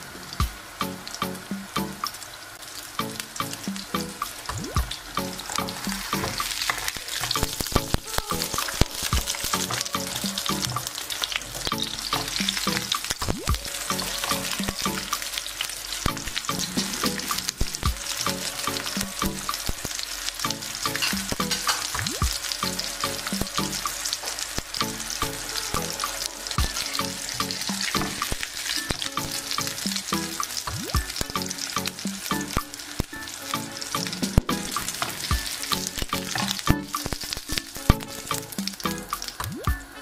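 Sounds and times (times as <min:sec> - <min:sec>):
patties sizzling in oil: 0:00.0 - 0:40.0
utensils clicking against pan: 0:03.0 - 0:39.5.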